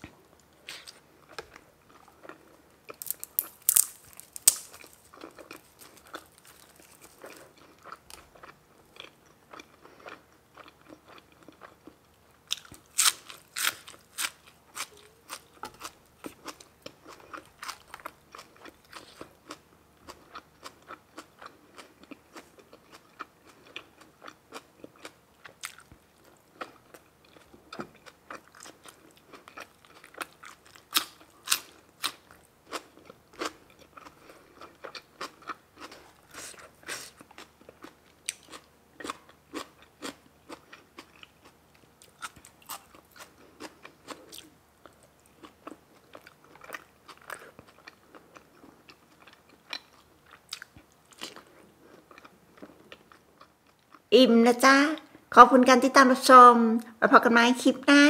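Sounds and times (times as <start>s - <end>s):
person chewing crunchy food: 0.0s - 54.1s.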